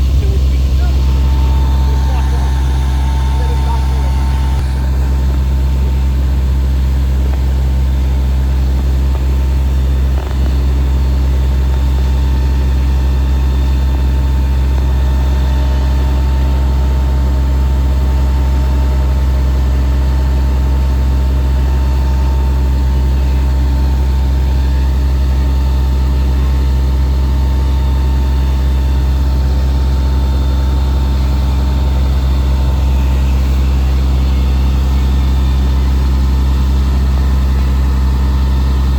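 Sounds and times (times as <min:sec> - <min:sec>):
fire engine running steadily: 0:00.0 - 0:38.9.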